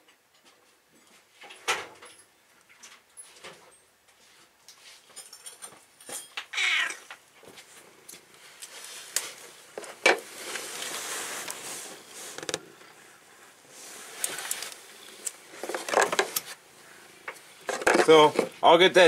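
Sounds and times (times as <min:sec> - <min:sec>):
hands rustling and scraping wiring: 0:00.1 - 0:19.0.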